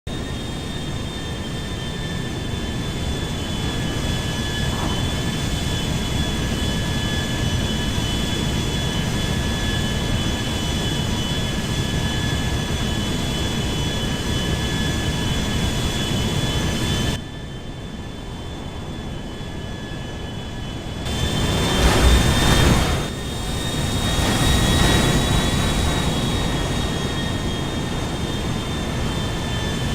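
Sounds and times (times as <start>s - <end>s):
jet engines rumbling and whining: 0.1s - 29.9s.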